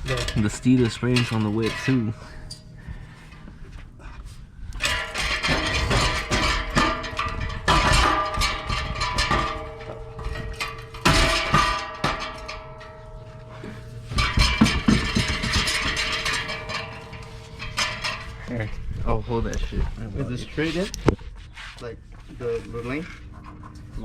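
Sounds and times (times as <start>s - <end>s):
metal clanking on exhaust pipes: 0.0s - 21.1s.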